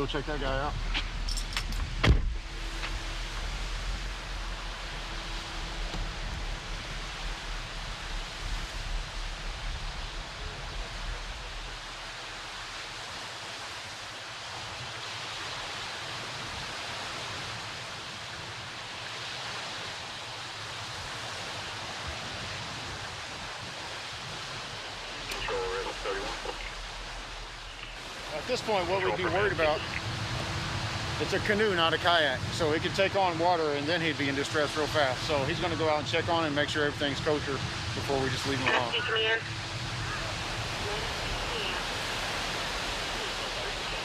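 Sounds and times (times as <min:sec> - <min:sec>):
low rumble: 0:00.0 - 0:15.0, 0:22.0 - 0:44.0
rushing outdoor noise: 0:00.0 - 0:44.0.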